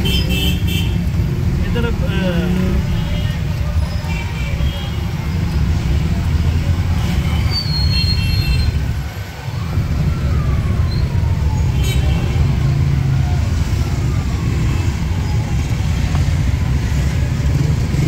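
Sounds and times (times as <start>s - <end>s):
traffic rumble: 0.0s - 18.0s
vehicles passing: 0.0s - 18.0s.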